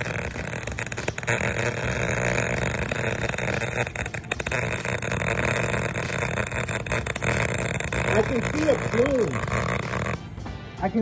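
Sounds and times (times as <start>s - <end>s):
welding arc crackling: 0.0s - 10.3s.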